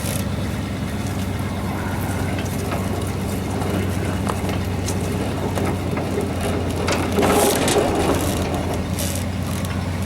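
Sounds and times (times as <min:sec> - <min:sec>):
vehicle engine running: 0:00.0 - 0:10.0
crunching noises: 0:00.9 - 0:09.8.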